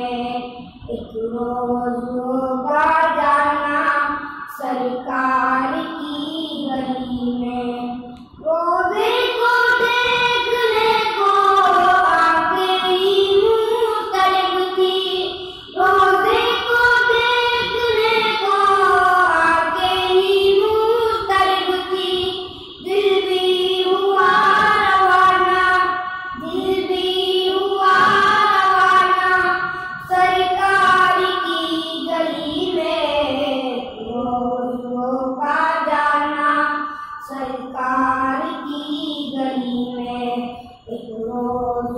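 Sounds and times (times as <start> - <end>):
boys singing unaccompanied: 0.0 - 41.9.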